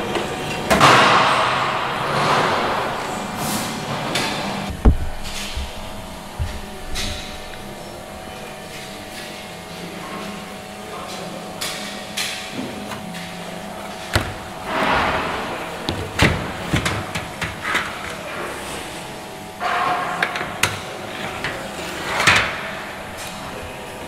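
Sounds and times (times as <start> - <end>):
workshop machinery hum: 0.0 - 24.0.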